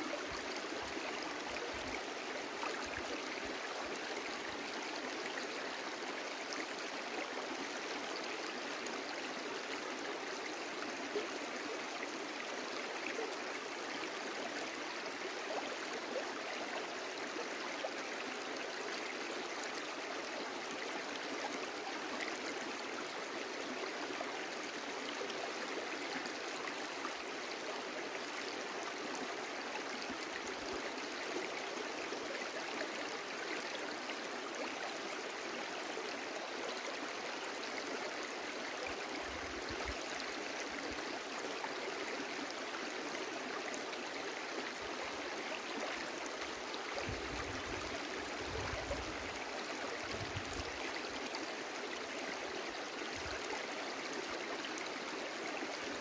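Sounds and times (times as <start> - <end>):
brook flowing: 0.0 - 56.0.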